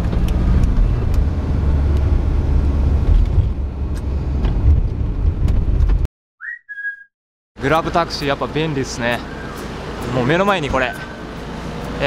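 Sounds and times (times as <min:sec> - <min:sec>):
car engine and road rumble: 0:00.0 - 0:06.1, 0:07.6 - 0:12.0.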